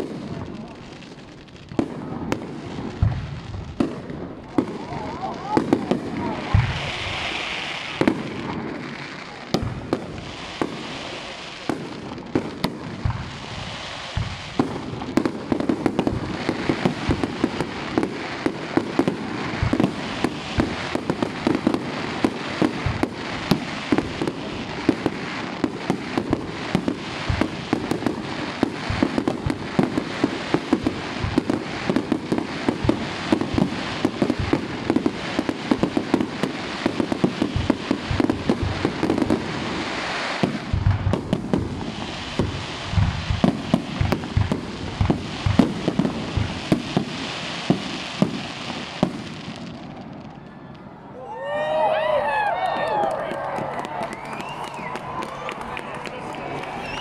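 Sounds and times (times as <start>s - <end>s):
fireworks bursting with bangs: 0.0s - 57.0s
fireworks crackling: 0.0s - 57.0s.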